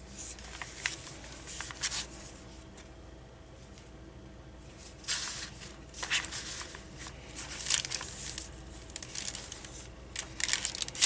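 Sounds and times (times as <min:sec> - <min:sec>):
paper pages rustling: 0:00.1 - 0:02.9, 0:04.7 - 0:11.0.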